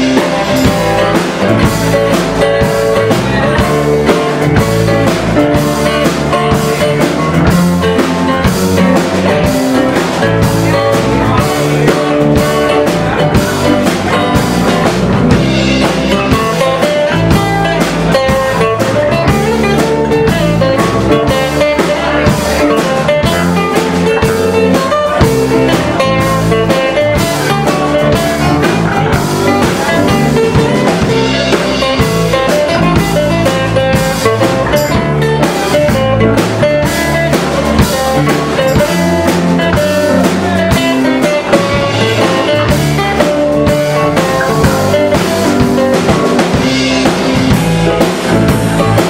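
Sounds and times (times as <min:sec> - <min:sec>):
live band playing slow blues: 0:00.0 - 0:49.0
steady drum beat: 0:00.0 - 0:49.0.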